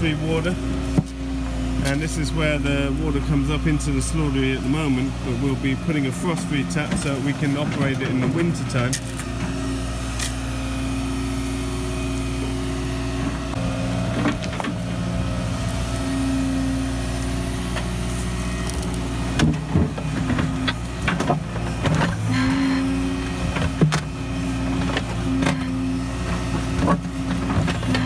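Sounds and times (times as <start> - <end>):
excavator engine running: 0.0 - 28.0
hydraulics whining: 0.0 - 28.0.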